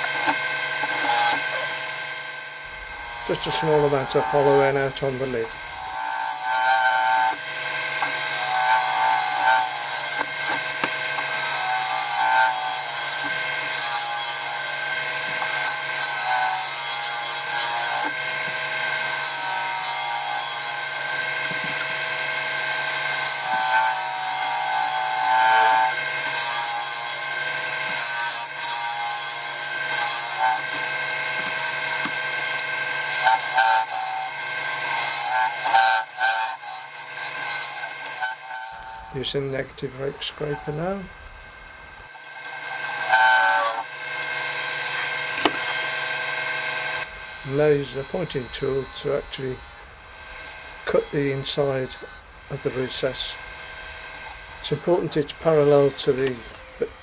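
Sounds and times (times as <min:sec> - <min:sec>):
turning tool scraping wood: 0:00.0 - 0:02.2, 0:02.8 - 0:57.0
lathe motor hum: 0:00.0 - 0:57.0.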